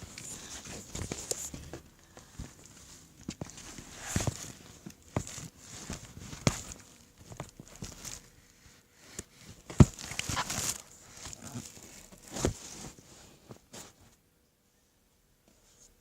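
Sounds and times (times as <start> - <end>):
knocks and handling noises: 0.0 - 8.4, 9.1 - 14.1.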